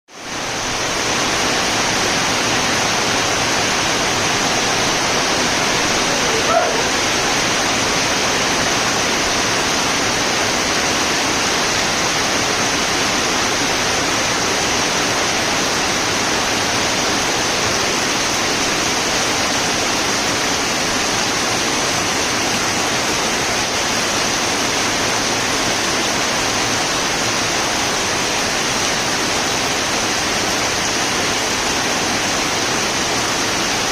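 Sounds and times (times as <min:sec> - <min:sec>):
heavy rain hissing: 0:00.1 - 0:33.9.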